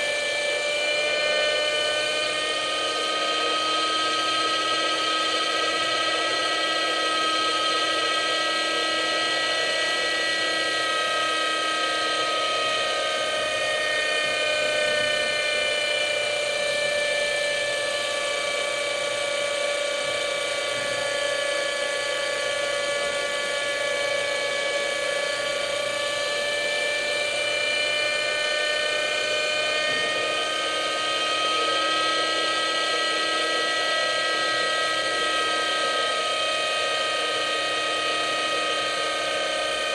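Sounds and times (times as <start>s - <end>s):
model helicopter engine whine: 0.0s - 39.9s.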